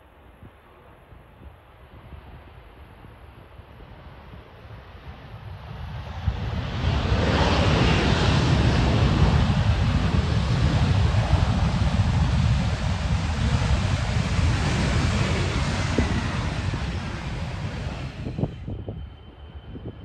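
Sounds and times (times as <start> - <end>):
wind rumble on microphone: 0.0 - 20.0
jet engines roaring: 3.9 - 20.0.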